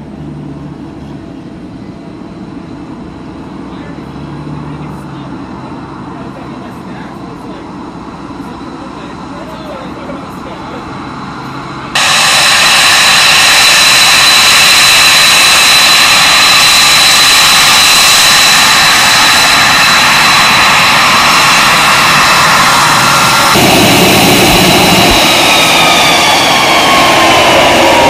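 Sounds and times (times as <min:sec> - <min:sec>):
jet engine whine: 0:00.0 - 0:28.0.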